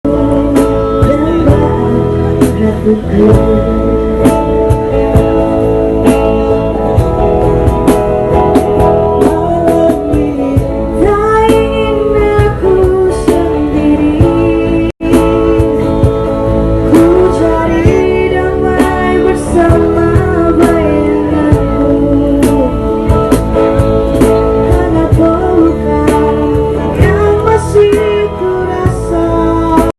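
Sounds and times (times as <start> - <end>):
person singing: 0.0 - 29.9.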